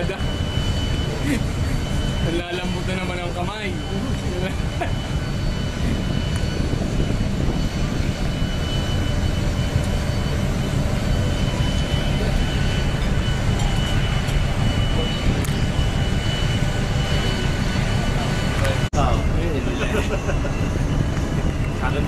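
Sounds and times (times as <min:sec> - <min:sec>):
faint high whine: 0:00.0 - 0:22.0
ship engine low rumble: 0:00.0 - 0:22.0.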